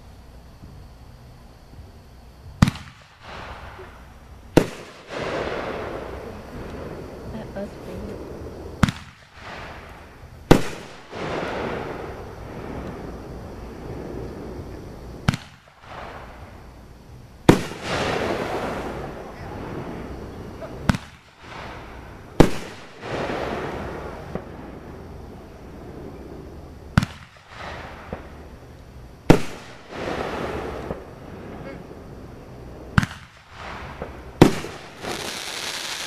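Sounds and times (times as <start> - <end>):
fireworks bangs: 2.4 - 36.0.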